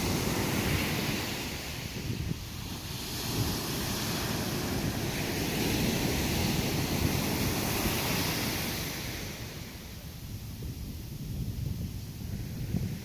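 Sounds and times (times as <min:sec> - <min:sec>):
ocean wave rushing: 0:00.0 - 0:11.2
wind rumbling on microphone: 0:00.0 - 0:13.0.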